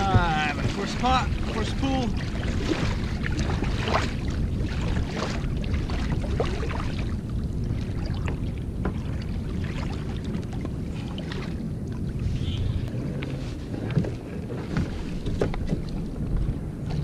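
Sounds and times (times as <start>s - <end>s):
low rumble of wind and water: 0.0s - 17.0s
paddle splashing in water: 0.0s - 17.0s.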